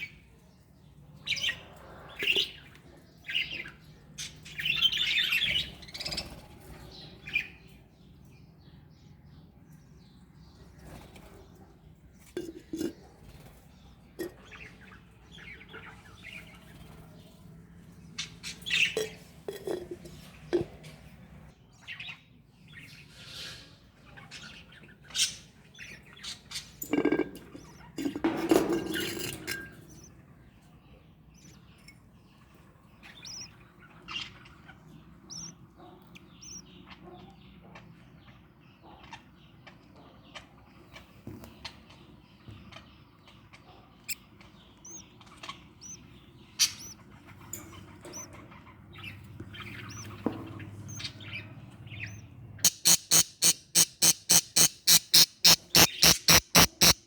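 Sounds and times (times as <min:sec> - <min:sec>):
budgerigars chirping and squawking: 0:00.0 - 0:57.0.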